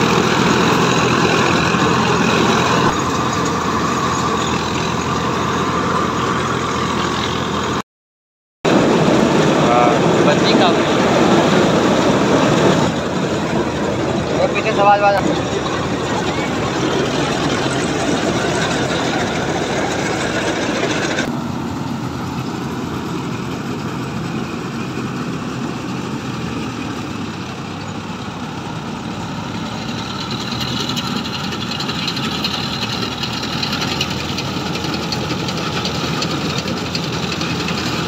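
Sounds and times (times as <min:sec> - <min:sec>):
combine harvester running: 0:00.0 - 0:07.8, 0:08.7 - 0:38.0.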